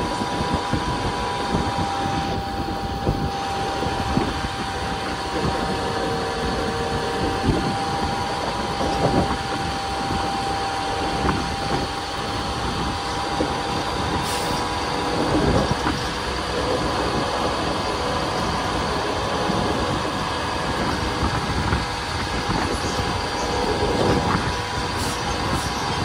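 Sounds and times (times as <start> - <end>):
faint steady whine: 0.0 - 26.0
train wheels rumbling on rails: 0.0 - 26.0.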